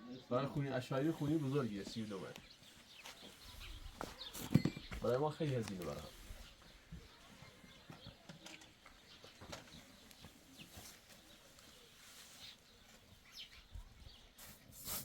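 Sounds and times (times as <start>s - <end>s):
soft bird chirps: 0.0s - 15.0s.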